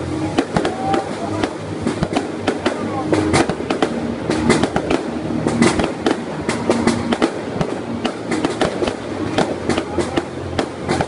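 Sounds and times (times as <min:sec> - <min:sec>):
background firework bursts: 0:00.0 - 0:11.0
fireworks bangs and cracks: 0:00.0 - 0:11.0.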